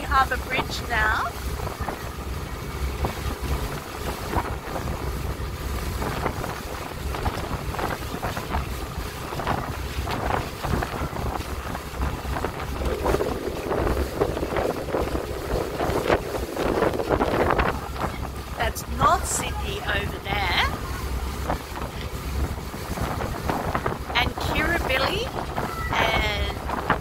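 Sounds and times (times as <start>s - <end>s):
choppy water rushing along hull: 0.0s - 27.0s
wind buffeting microphone: 0.0s - 27.0s.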